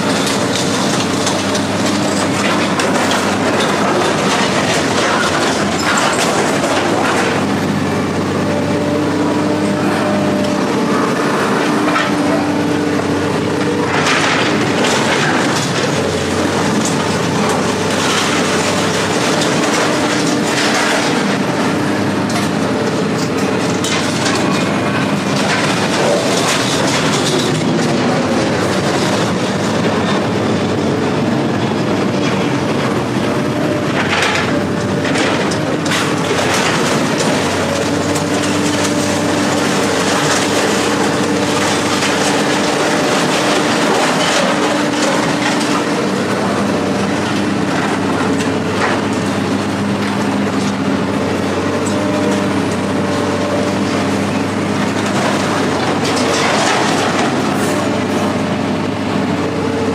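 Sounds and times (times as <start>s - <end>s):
engine running with heavy rattling: 0.0s - 59.9s.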